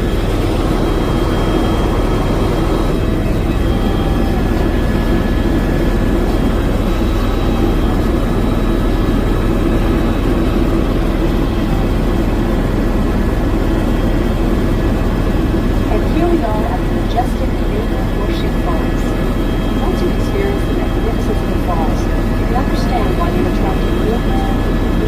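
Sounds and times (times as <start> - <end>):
helicopter rotor and turbine drone: 0.0 - 25.0
whining tones: 0.0 - 25.0.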